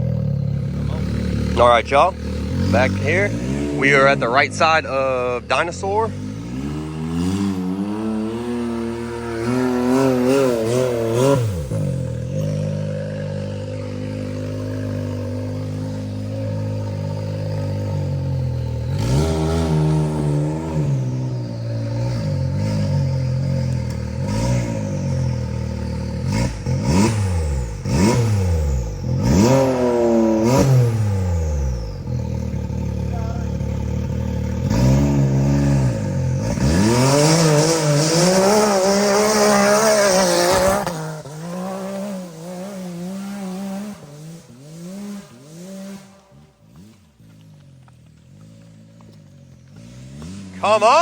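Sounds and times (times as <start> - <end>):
engine revving: 0.0 - 51.0.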